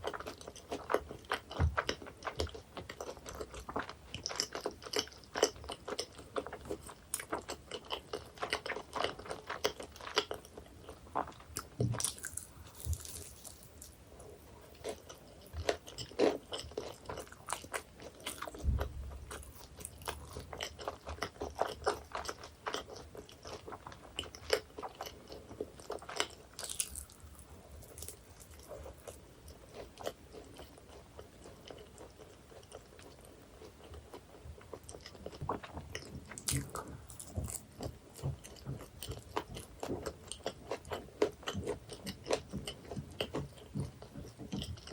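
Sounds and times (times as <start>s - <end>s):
crunching and chewing pastry: 0.0s - 44.9s.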